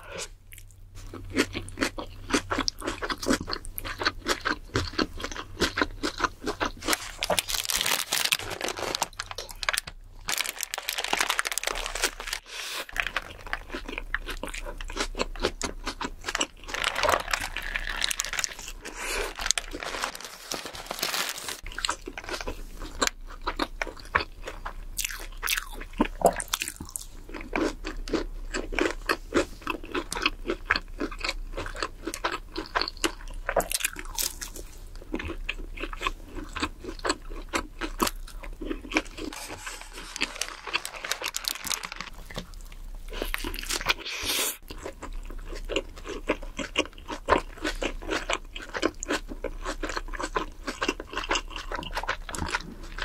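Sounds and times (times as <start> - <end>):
chewing and crunching food: 0.0 - 53.0.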